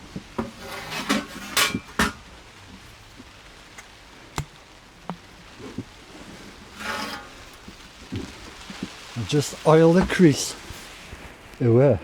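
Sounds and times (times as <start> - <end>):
scraping and rustling: 0.0 - 11.6.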